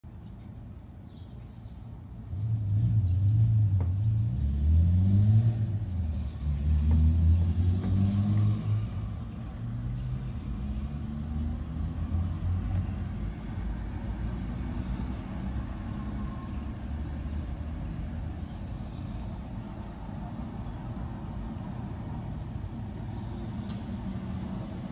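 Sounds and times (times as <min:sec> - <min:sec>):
vehicle engine rumbling: 0:00.3 - 0:24.9.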